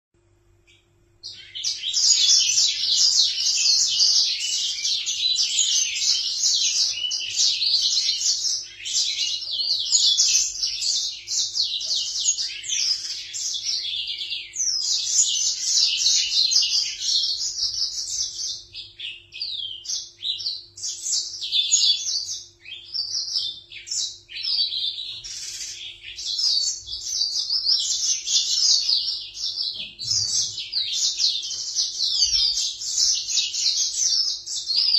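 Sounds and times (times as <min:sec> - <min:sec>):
songbirds chirping and twittering: 0:00.2 - 0:34.9.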